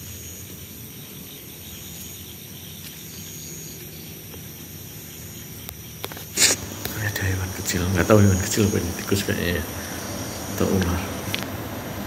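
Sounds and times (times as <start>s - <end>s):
background hiss: 0.0s - 12.0s
crickets and night insects: 0.0s - 12.0s.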